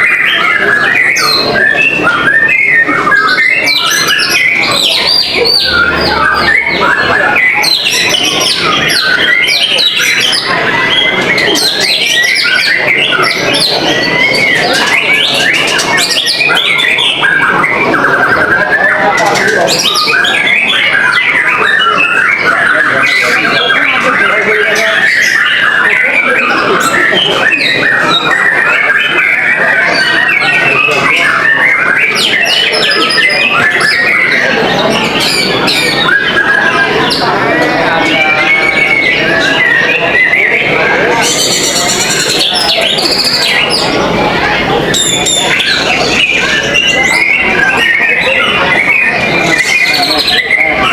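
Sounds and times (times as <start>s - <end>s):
birds singing rapid sharp notes: 0.0s - 50.9s
songbirds whistling and trilling: 0.0s - 50.9s.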